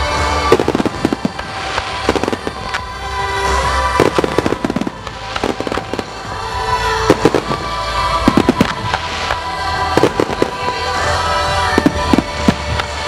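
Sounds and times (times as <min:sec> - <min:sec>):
fireworks bursting and crackling: 0:00.0 - 0:13.0
music: 0:00.0 - 0:13.0.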